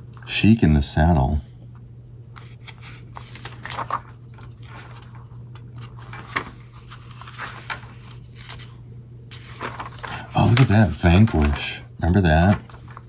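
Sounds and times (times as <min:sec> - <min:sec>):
steady low hum: 0:00.0 - 0:13.0
paper pages rustling and flicking: 0:02.3 - 0:13.0.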